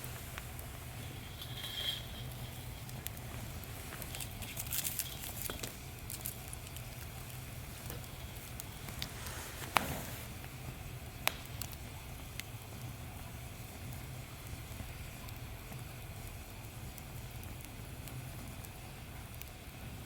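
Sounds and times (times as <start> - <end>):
steady low hum: 0.0 - 20.0
wood fire crackling and popping: 0.0 - 20.0.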